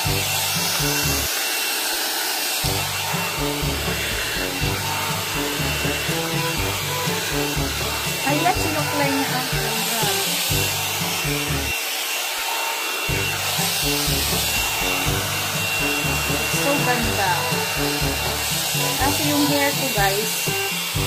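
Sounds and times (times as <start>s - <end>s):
background music with bass line: 0.0s - 1.3s, 2.6s - 11.8s, 13.1s - 21.0s.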